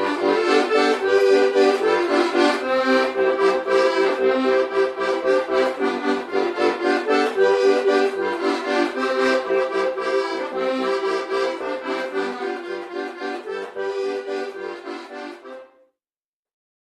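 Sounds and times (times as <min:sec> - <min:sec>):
instrumental folk tune: 0:00.0 - 0:16.0.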